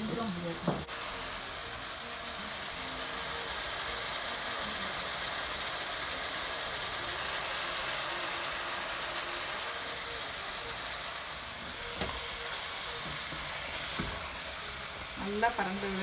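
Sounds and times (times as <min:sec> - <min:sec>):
chicken sizzling in a pot: 0:00.0 - 0:16.0.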